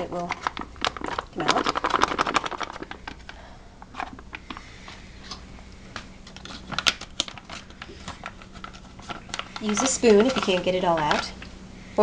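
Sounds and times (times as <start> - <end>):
foil pouch crinkling: 0.0 - 5.4, 6.2 - 11.5.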